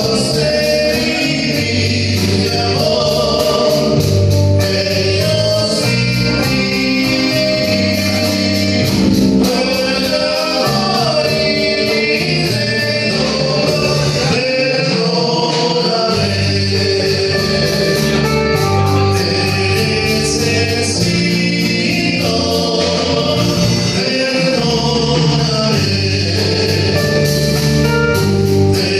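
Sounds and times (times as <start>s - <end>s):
live band playing: 0.0s - 28.9s
person singing: 0.0s - 28.9s.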